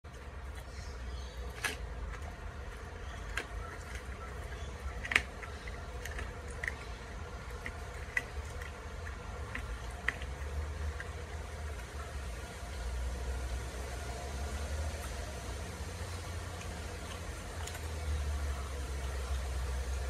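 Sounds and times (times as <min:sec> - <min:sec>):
dog crunching bones: 0:00.0 - 0:12.9, 0:14.9 - 0:20.0.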